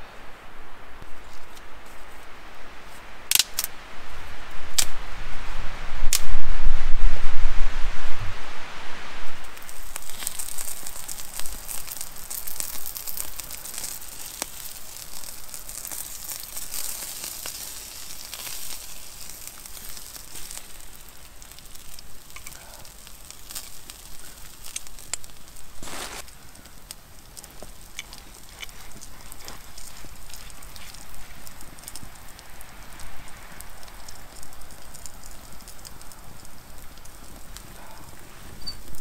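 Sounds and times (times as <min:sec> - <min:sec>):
coals hissing: 0:00.0 - 0:06.5, 0:08.8 - 0:39.0
campfire crackling and popping: 0:00.5 - 0:07.6, 0:09.3 - 0:39.0.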